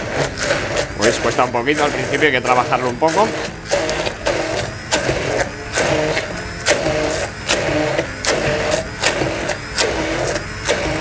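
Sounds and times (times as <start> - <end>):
stick blender motor labouring: 0.0 - 11.0.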